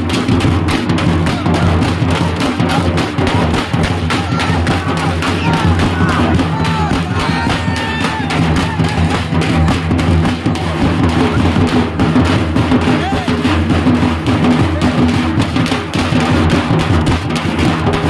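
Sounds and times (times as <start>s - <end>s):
drums beaten with sticks: 0.0s - 18.0s
crowd voices: 0.8s - 18.0s.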